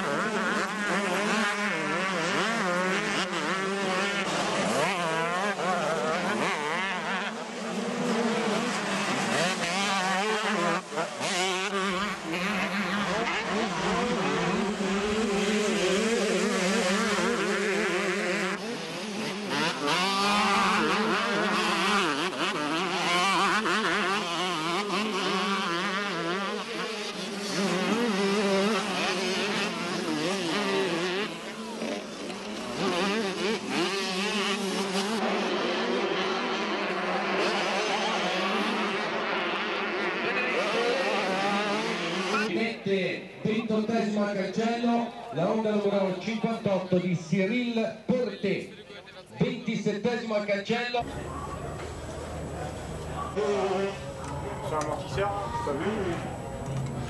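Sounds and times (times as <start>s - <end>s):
motocross bikes revving: 0.0s - 48.7s, 49.4s - 57.0s.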